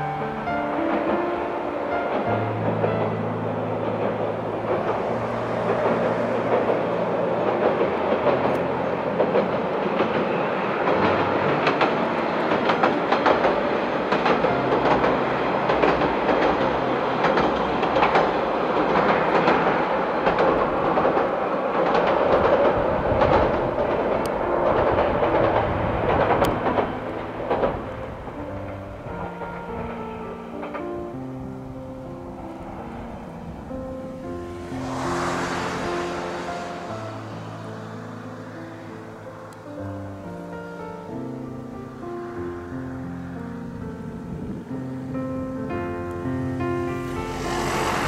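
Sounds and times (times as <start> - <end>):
rumble of steel bridge: 0.0 - 48.0
wheels clacking over rail joints: 0.1 - 42.0, 45.8 - 48.0.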